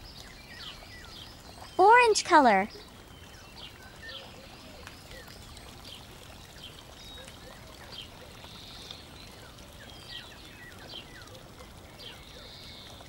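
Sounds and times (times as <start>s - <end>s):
small birds chirping: 0.0s - 13.0s
steady water-like hiss: 0.0s - 13.0s.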